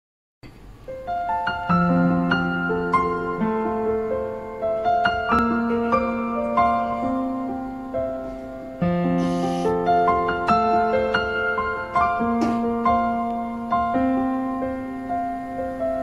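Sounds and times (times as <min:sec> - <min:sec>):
slow piano melody: 0:00.4 - 0:16.0.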